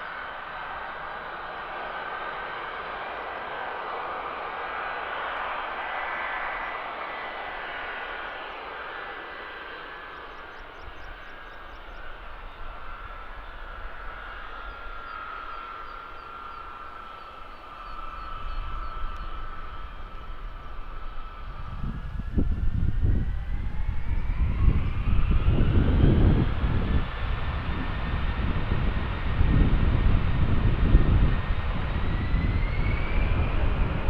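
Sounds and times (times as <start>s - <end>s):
high jet whine: 0.0s - 34.0s
jet engine roar: 0.0s - 34.0s.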